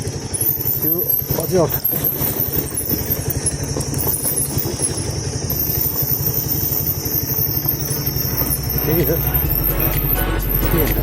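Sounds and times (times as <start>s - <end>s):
motorcycle engine throbbing: 0.0s - 11.0s.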